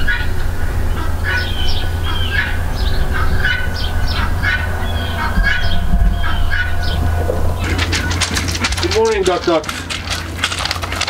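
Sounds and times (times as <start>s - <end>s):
fowl calling: 0.0s - 11.0s
steady low rumble: 0.0s - 11.0s.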